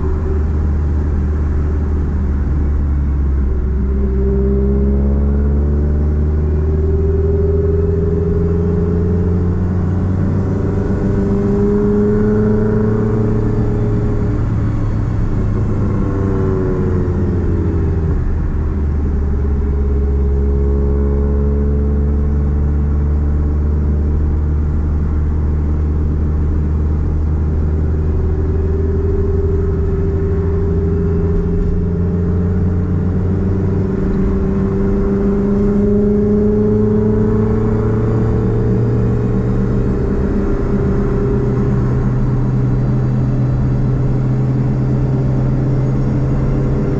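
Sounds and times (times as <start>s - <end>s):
car exhaust droning: 0.0s - 46.9s.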